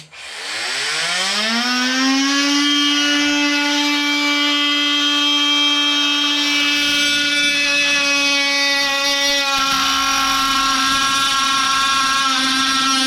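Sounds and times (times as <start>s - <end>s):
oscillating multi-tool whine: 0.0s - 13.0s.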